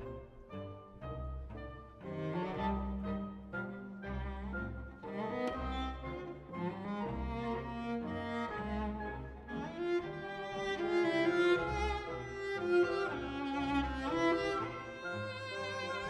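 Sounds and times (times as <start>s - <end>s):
orchestra bowed strings: 0.0s - 16.0s
solo cello melody: 0.0s - 16.0s.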